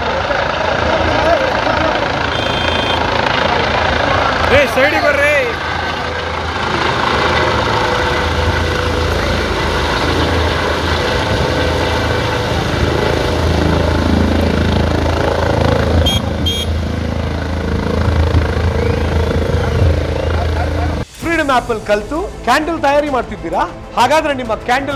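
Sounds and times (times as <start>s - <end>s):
helicopter rotor beat: 0.0s - 24.9s.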